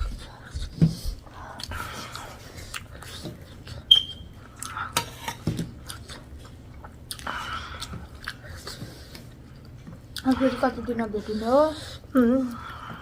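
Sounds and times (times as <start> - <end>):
person chewing and eating: 0.0 - 13.0.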